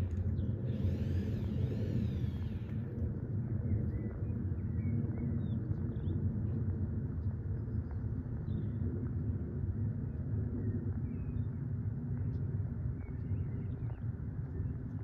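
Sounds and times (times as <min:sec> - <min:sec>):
jet engine rumble overhead: 0:00.0 - 0:15.0.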